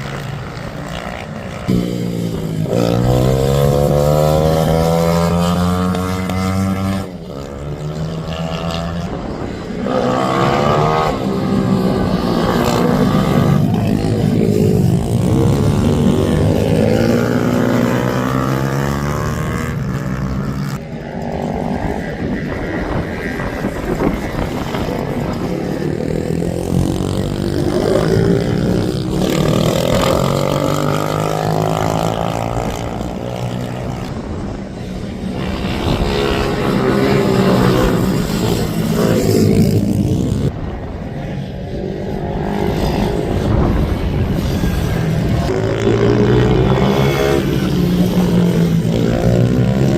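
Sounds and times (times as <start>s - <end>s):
racing minibike engines revving: 0.0s - 49.9s.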